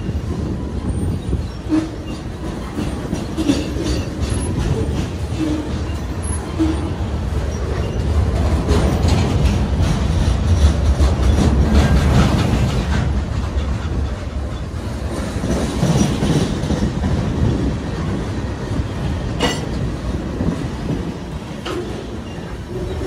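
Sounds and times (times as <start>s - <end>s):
freight train rumbling past: 0.0s - 23.0s
wheels clicking over rail joints: 0.0s - 23.0s.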